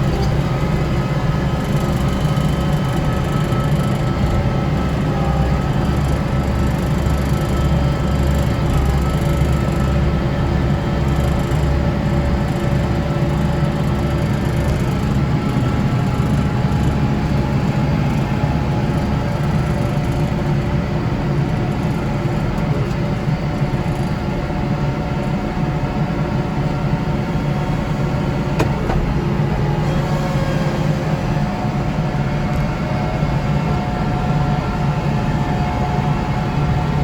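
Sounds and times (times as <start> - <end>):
diesel engine and snow blower drone: 0.0 - 37.0.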